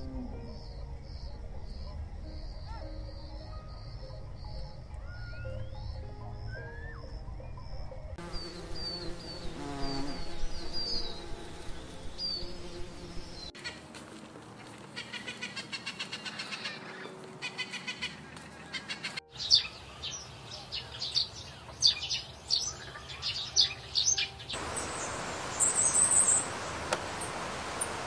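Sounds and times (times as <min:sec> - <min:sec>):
small birds chirping: 0:00.0 - 0:13.8, 0:15.0 - 0:28.0.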